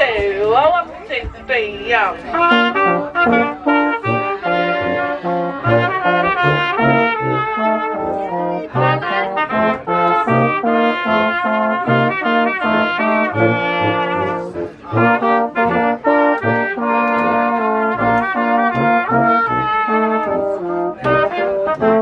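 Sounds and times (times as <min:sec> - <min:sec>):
trumpet and trombone playing: 0:01.8 - 0:22.0.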